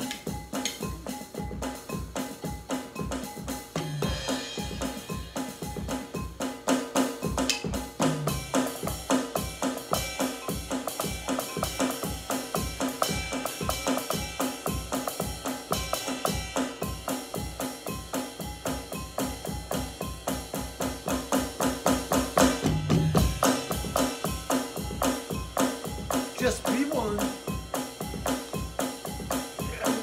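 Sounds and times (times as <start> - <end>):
drum kit groove: 0.0 - 30.0.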